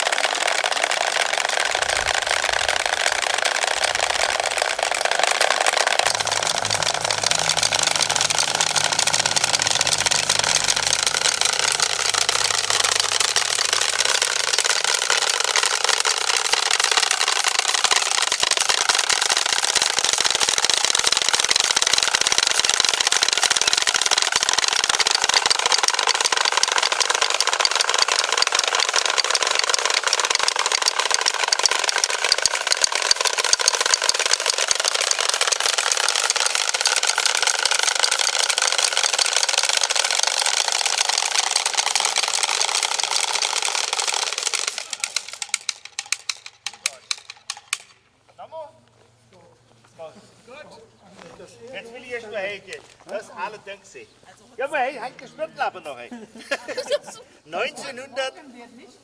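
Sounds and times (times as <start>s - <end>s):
wooden rattles clacking: 0.0s - 48.1s.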